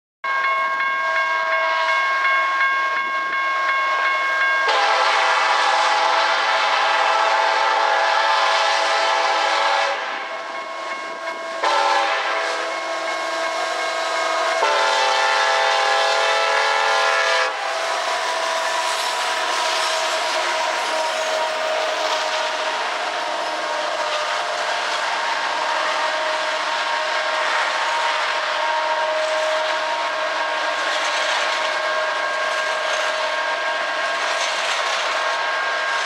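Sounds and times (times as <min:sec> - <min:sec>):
train engines and wheels rushing past: 0:00.3 - 0:36.0
train air horn blasts: 0:01.0 - 0:02.1, 0:04.6 - 0:36.0.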